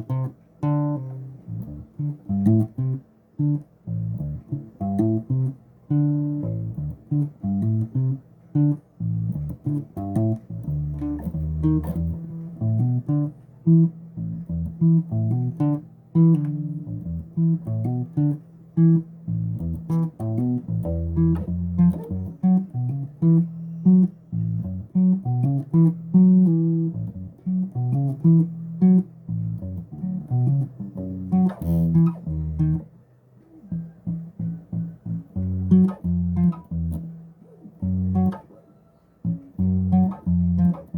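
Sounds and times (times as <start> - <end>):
bass guitar plucked notes: 0.0 - 33.0, 33.6 - 38.6, 39.2 - 40.9.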